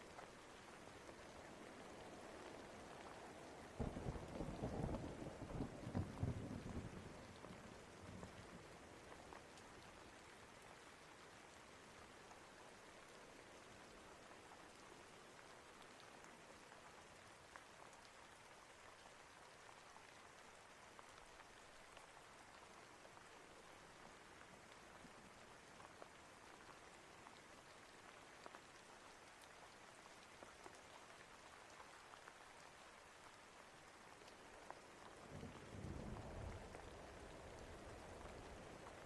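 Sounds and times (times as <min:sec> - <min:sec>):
faint rain: 0:00.0 - 0:39.0
raindrops ticking on a surface: 0:00.0 - 0:39.0.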